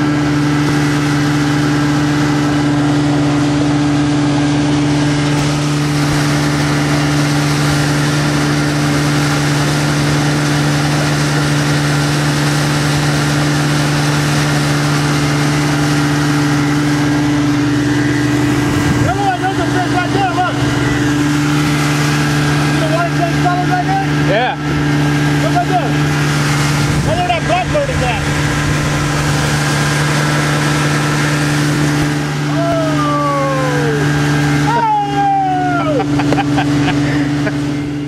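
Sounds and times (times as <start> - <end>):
motorboat engine humming: 0.0 - 38.0
steady rushing noise: 0.0 - 38.0.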